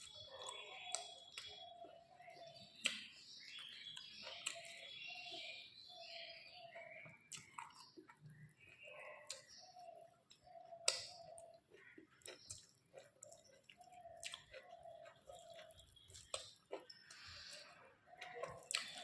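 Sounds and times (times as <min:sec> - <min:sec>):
wet chewing: 0:00.0 - 0:19.0.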